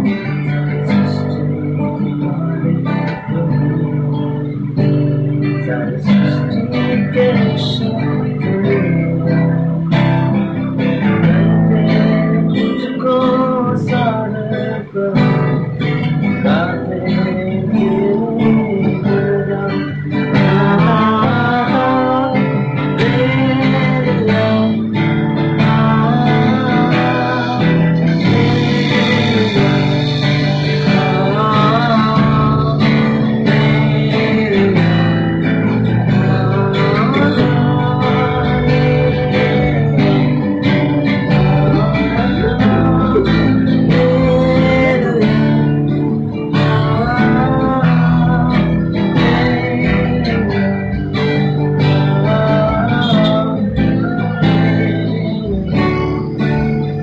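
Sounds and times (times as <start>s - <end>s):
acoustic guitar strumming: 0.0s - 57.0s
man singing: 0.0s - 57.0s.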